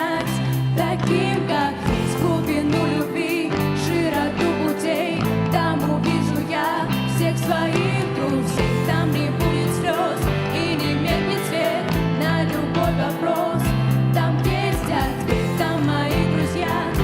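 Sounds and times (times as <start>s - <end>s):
instrumental band music: 0.0s - 17.0s.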